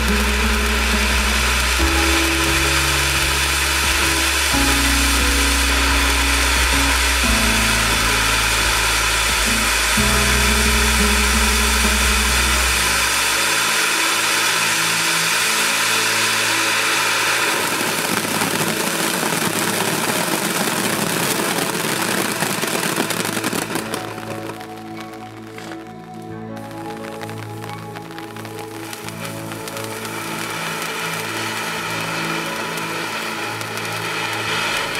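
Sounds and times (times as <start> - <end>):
background music: 0.0 - 34.9
firework fountain hissing and crackling: 0.0 - 34.9.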